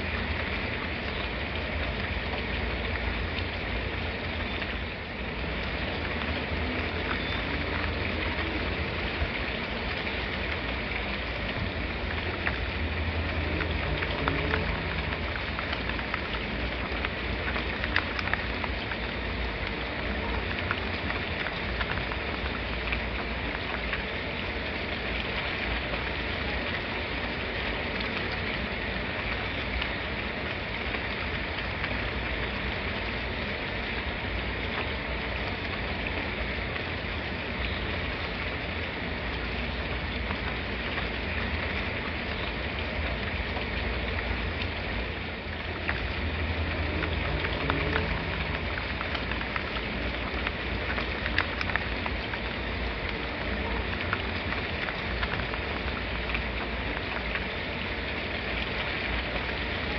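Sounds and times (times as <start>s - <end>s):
rain patter on a surface: 0.0s - 59.9s.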